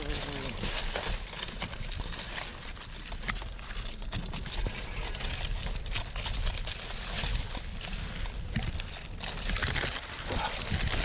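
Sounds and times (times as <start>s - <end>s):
bicycle rumbling on dirt trail: 0.0s - 11.0s
bike clicks and rattles: 0.0s - 11.0s.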